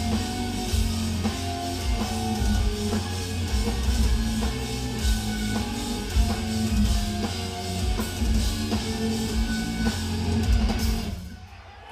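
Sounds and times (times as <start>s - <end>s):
distorted electric guitars riffing: 0.0s - 11.4s.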